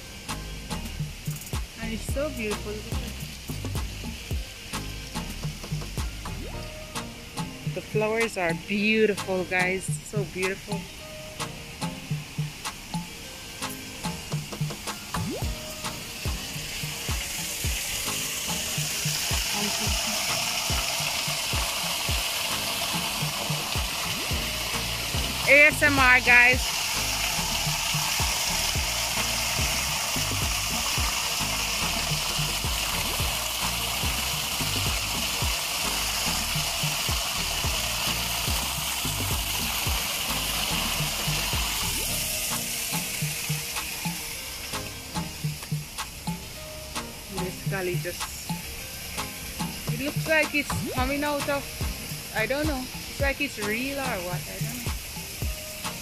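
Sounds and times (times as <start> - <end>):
music with thumping bass: 0.0 - 8.2, 11.8 - 44.2, 49.2 - 56.0
small waterfall splashing: 0.0 - 56.0.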